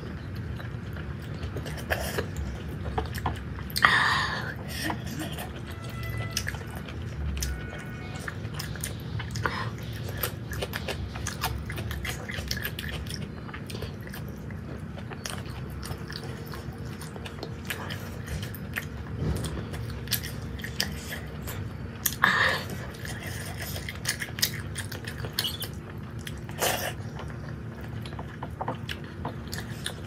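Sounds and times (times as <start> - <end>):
chewing food: 0.0 - 30.0.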